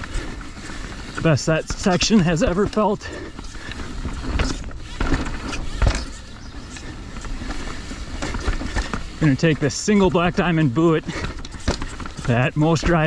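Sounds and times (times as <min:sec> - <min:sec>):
bike knocking over bumps: 0:00.0 - 0:13.0
bike tyres on dirt trail: 0:00.0 - 0:13.0.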